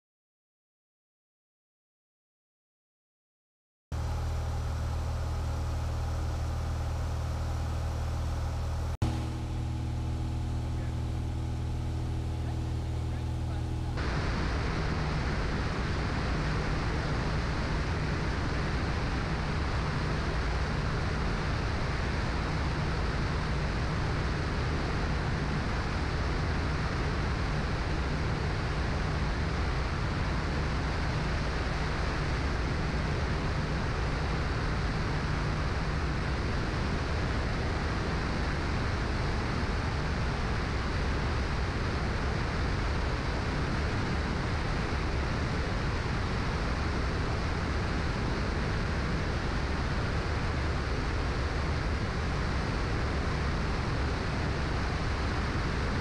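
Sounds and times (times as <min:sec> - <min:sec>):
propeller plane engine droning: 0:03.9 - 0:56.0.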